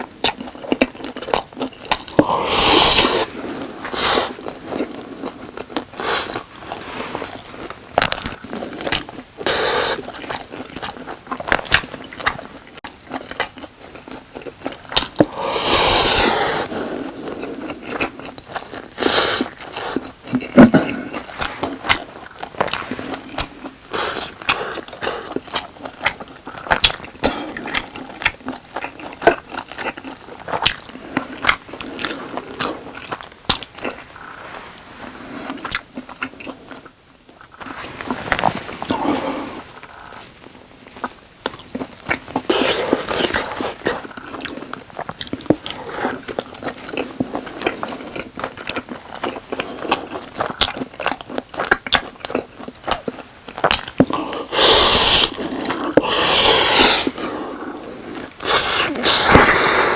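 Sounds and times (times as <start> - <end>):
close chewing with wet mouth clicks: 0.0 - 3.2, 7.4 - 34.0, 40.9 - 59.9.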